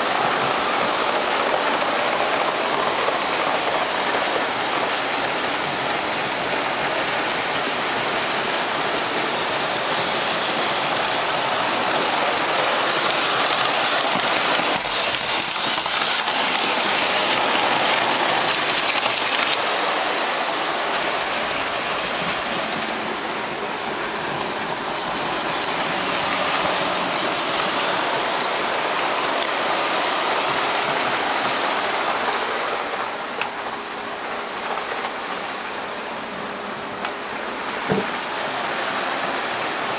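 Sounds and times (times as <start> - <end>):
model train wheels rushing on track: 0.0 - 39.9.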